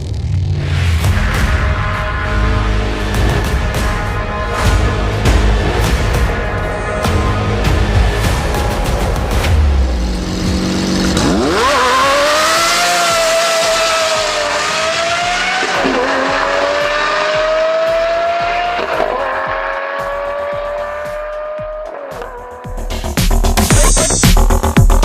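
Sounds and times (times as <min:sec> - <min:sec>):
sports car engine accelerating: 0:00.0 - 0:23.1.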